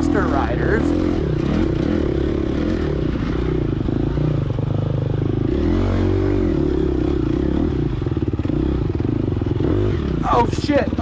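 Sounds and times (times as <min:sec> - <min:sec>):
dirt bike engine running hard: 0:00.0 - 0:11.0.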